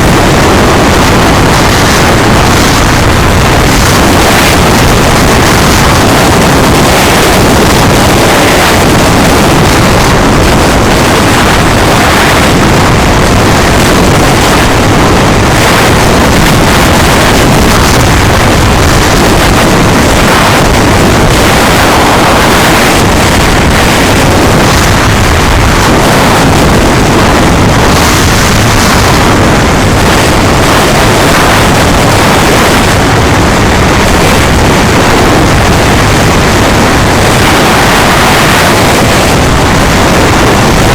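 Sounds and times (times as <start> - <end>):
vehicle rushing noise: 0.0 - 40.9
wind buffeting microphone: 0.0 - 40.9.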